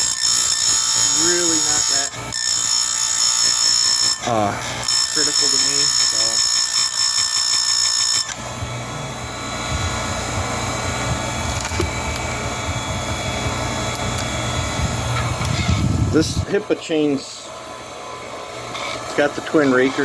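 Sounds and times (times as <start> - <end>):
grinding rasp with low hum: 0.0 - 16.6
grinder high whine: 0.0 - 20.0.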